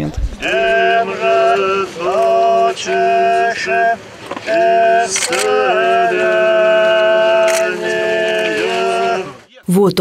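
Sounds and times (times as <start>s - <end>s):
choir singing a hymn: 0.4s - 9.5s.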